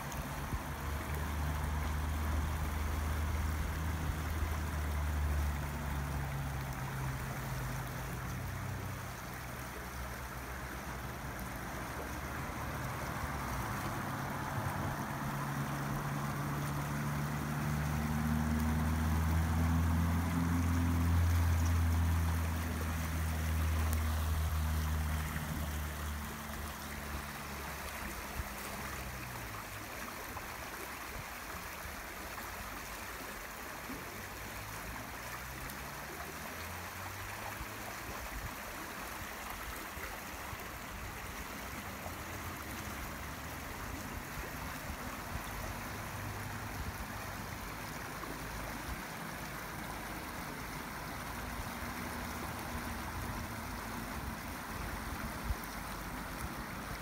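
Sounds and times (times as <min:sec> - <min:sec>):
stream running over gravel: 0:00.0 - 0:57.0.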